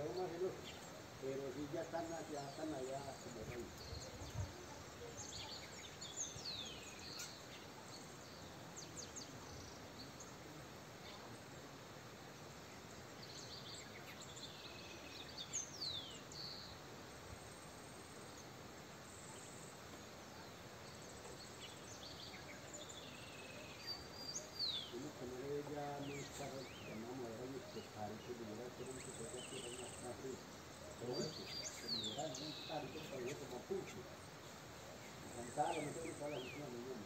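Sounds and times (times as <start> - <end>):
outdoor hiss: 0.0 - 37.0.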